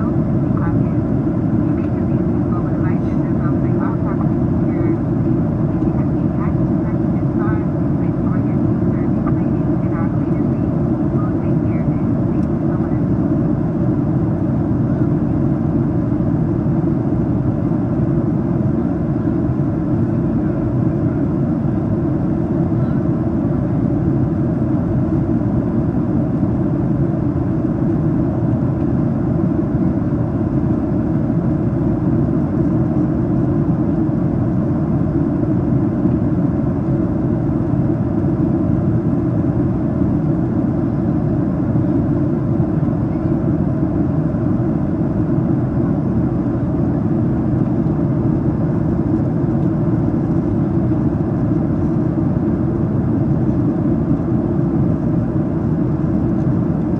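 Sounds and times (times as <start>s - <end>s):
airplane cabin noise: 0.0s - 56.9s.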